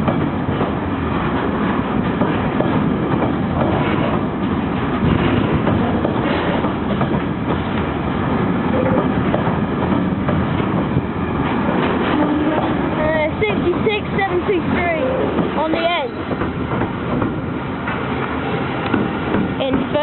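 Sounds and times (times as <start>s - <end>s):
train wagons rumbling on rails: 0.0s - 20.0s.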